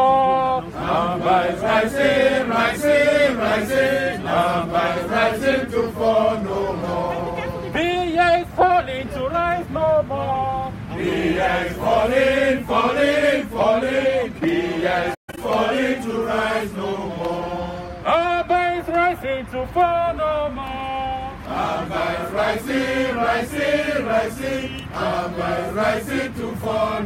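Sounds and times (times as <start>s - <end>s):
crowd singing in unison: 0.0s - 27.0s.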